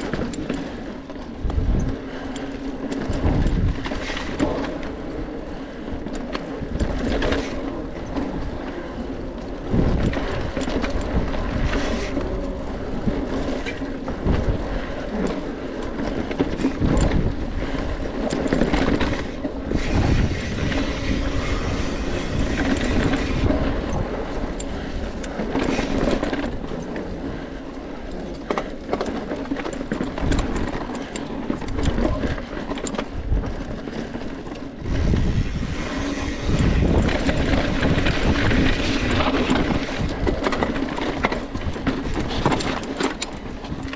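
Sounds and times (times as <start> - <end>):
bike rattling and knocking: 0.0 - 43.9
bike tyres rumbling on dirt: 0.0 - 43.9.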